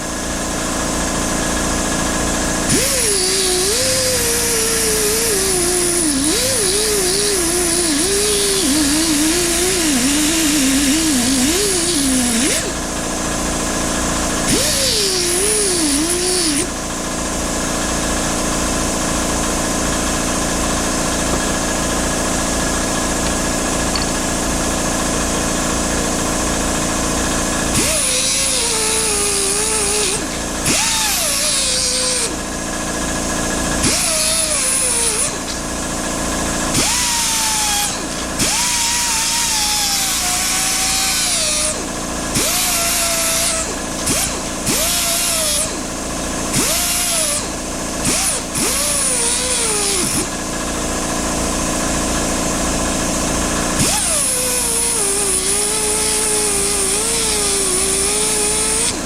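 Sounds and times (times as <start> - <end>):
cordless drill whining: 0.0 - 17.0, 20.6 - 52.6, 53.4 - 59.0.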